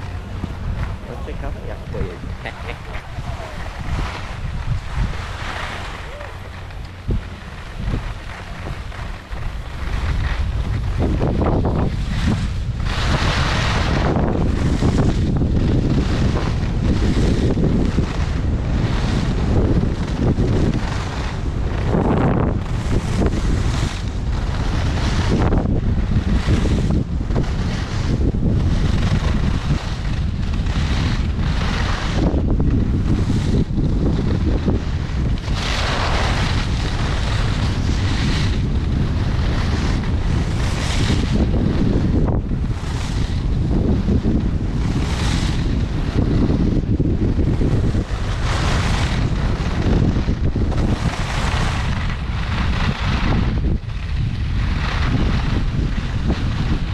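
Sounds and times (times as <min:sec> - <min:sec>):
skis sliding over snow: 0:00.0 - 0:56.9
wind buffeting microphone: 0:00.0 - 0:56.9.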